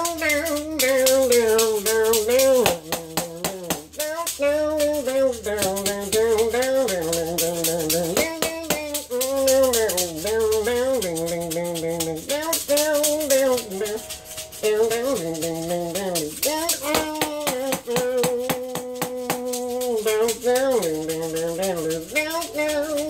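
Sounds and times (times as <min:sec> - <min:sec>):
blues melody: 0:00.0 - 0:23.0
maraca shaking: 0:00.0 - 0:23.0.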